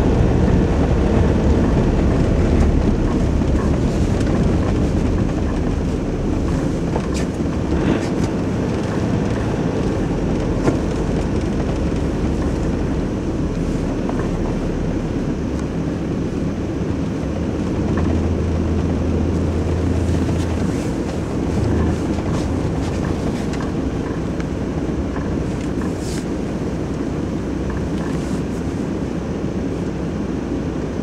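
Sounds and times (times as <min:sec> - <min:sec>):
pickup engine and tyres droning: 0:00.0 - 0:31.0.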